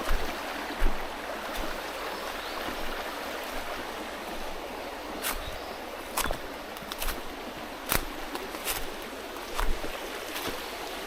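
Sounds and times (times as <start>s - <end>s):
mountain stream flowing: 0.0s - 11.0s.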